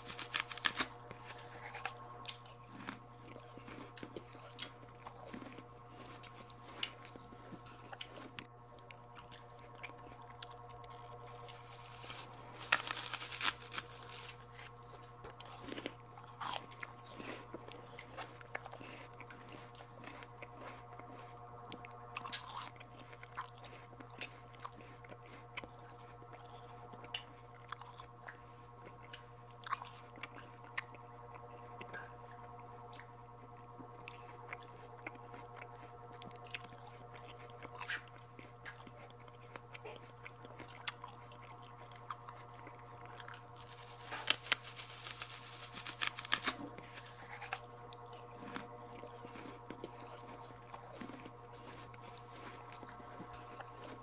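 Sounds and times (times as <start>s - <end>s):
low steady hum: 0.0s - 54.0s
person biting and chewing fruit: 0.0s - 54.0s.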